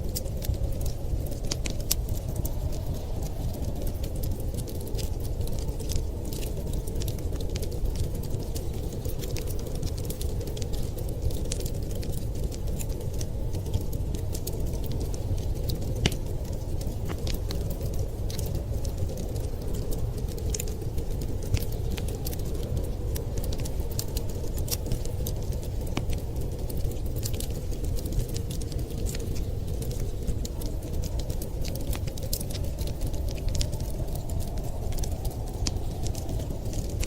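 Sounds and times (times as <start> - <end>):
fireplace crackling and popping: 0.0 - 37.0
low rumble of storm wind: 0.0 - 37.0.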